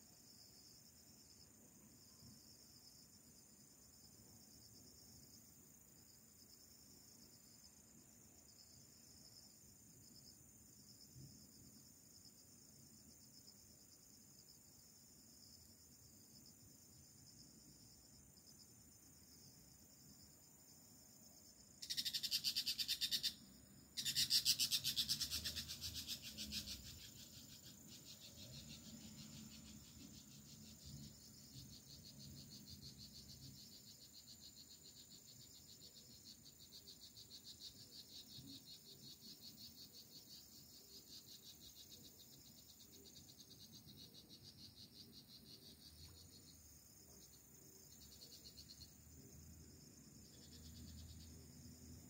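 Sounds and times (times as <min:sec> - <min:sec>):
insect pulsing chorus: 0:00.0 - 0:52.0
insects buzzing: 0:00.0 - 0:52.0.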